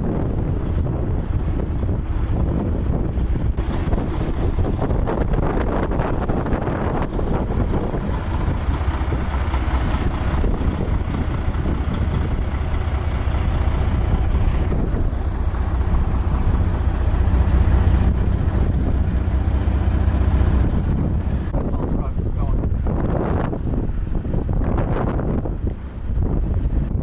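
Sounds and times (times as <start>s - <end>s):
vehicle traffic rumble: 0.0s - 27.0s
wind buffeting microphone: 0.0s - 27.0s.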